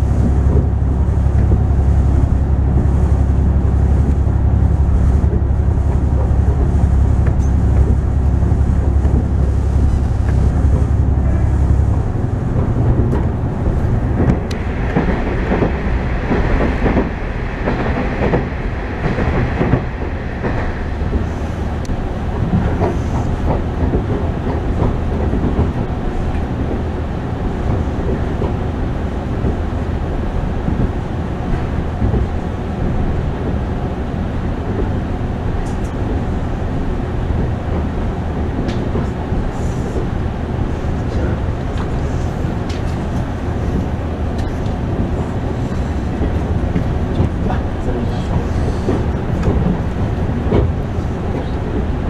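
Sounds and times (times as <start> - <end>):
wheels running on rails: 0.0 - 52.0.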